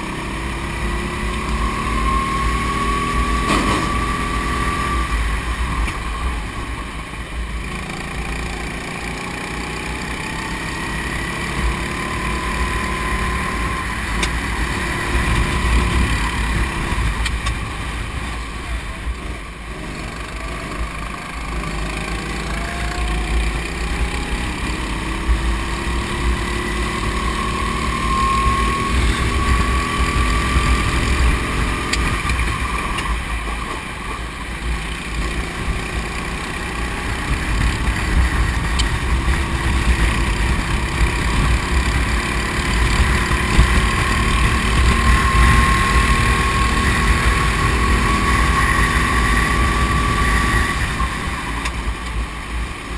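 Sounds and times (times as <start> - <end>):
go-kart engine accelerating: 0.0 - 52.9.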